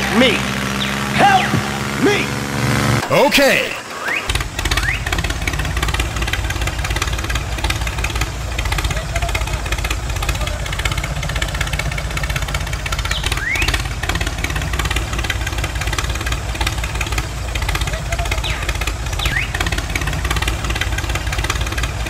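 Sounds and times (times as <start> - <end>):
engine idling with low chug: 0.0 - 22.0.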